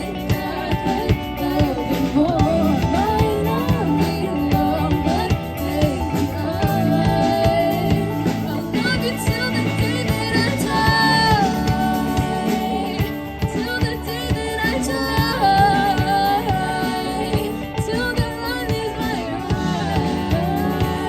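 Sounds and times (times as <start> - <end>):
guitar: 0.0 - 21.0
low bass notes: 0.0 - 21.0
person singing: 0.0 - 21.0
steady drum beat: 0.0 - 21.0.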